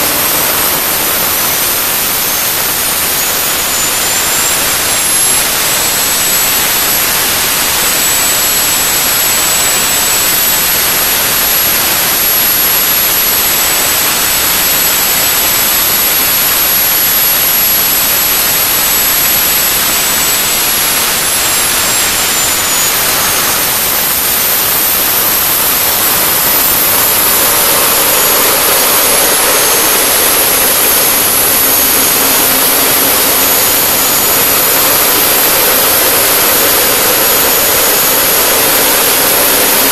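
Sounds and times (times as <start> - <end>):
gas turbine roaring with whine: 0.0 - 39.9.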